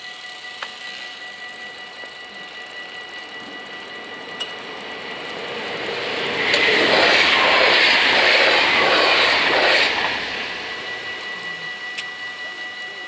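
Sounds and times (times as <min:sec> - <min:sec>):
electric train passing: 0:00.0 - 0:13.0
level crossing warning bells: 0:00.0 - 0:13.0.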